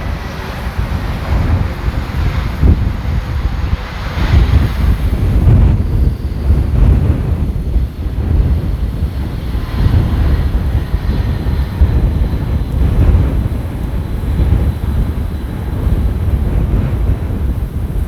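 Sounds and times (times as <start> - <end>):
gusty wind buffeting microphone: 0.0 - 18.0
jet airliner engines: 0.0 - 18.0.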